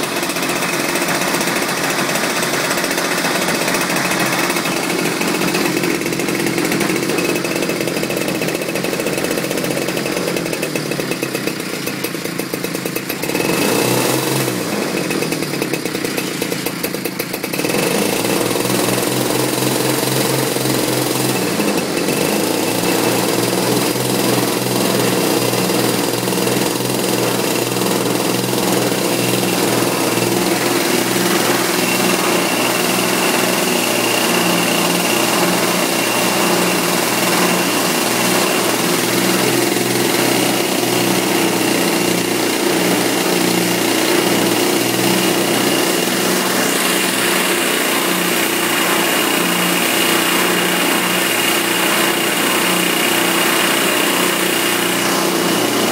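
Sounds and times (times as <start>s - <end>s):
small petrol engine running: 0.0s - 55.9s.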